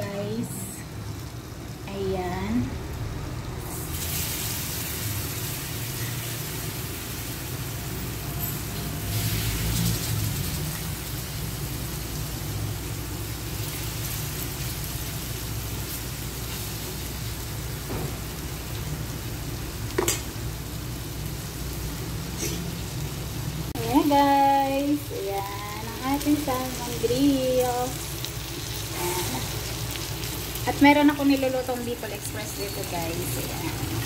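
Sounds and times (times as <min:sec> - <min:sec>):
fish sizzling in butter: 0:03.6 - 0:23.2, 0:23.8 - 0:34.0.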